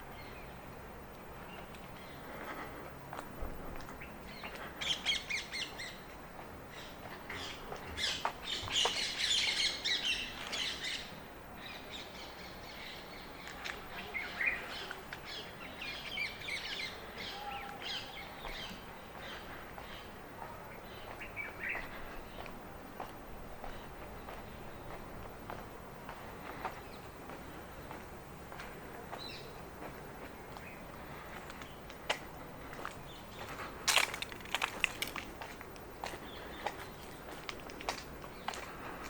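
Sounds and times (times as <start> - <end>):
birds chirping: 3.6 - 39.0.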